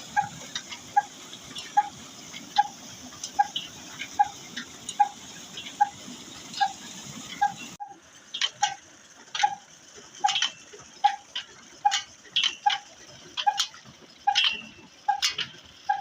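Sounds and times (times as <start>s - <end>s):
old engine beating slowly: 0.0s - 16.0s
sharp engine clicks: 0.0s - 16.0s.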